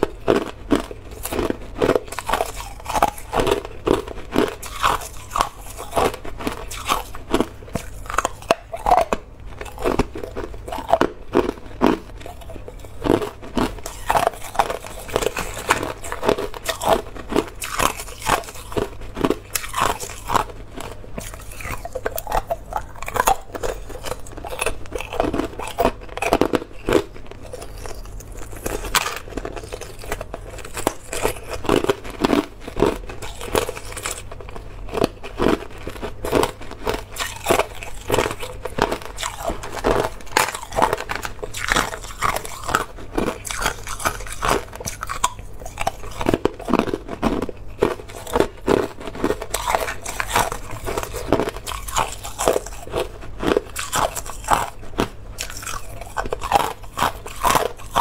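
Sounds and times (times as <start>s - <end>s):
ice cubes crunched by teeth: 0.0s - 58.0s.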